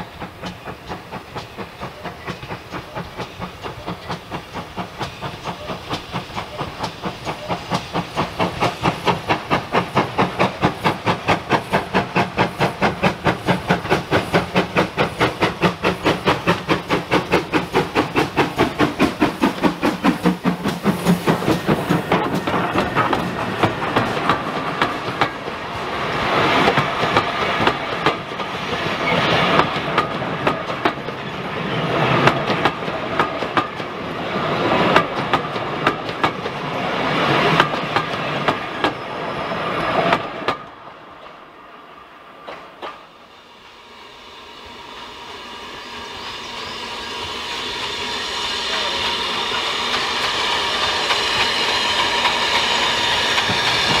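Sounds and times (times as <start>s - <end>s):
train wheels clacking over rail joints: 0.0s - 39.0s, 42.4s - 43.2s, 47.2s - 54.0s
steam locomotive chuffing: 0.0s - 41.5s, 42.4s - 54.0s.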